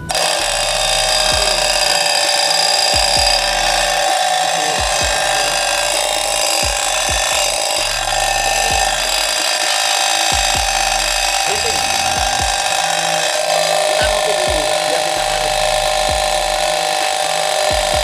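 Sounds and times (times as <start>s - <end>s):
motor noisemaker raspy buzz: 0.0s - 18.0s.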